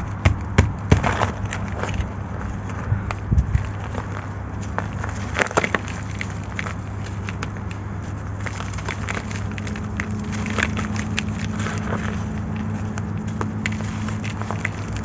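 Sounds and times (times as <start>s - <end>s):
cement chunks crunching: 0.0s - 15.0s
constant low hum: 0.0s - 15.0s.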